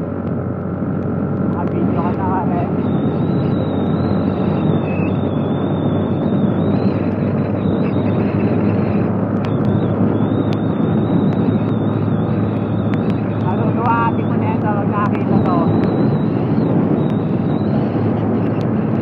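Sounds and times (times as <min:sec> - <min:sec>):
low hum: 0:00.0 - 0:19.0
vehicle engine and road noise: 0:00.0 - 0:19.0.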